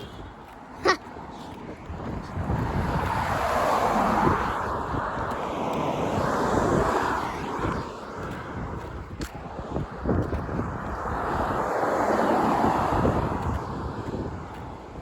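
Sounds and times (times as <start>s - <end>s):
vehicle passing on road: 0.0s - 15.0s
wind on microphone: 0.0s - 15.0s.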